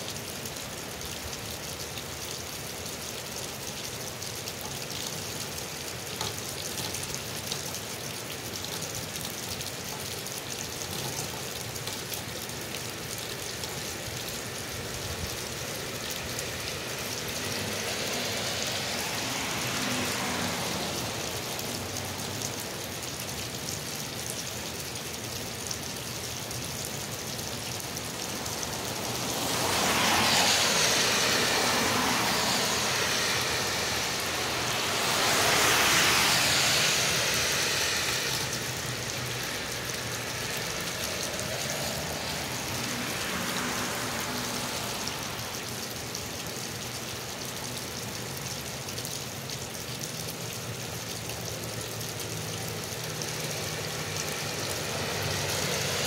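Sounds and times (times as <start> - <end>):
rain falling on pavement: 0.0 - 56.0
water gushing from downspout: 0.0 - 56.0.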